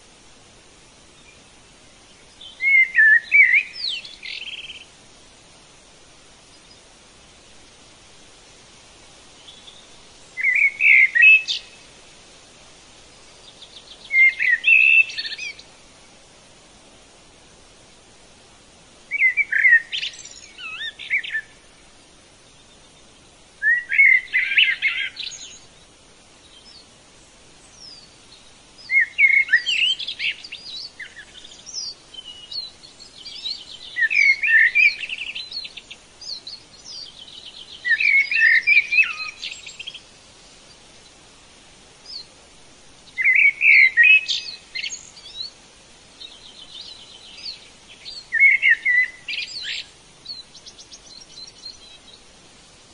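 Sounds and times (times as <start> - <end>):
faint steady hiss: 0.0 - 52.9
songbird singing: 0.0 - 52.9.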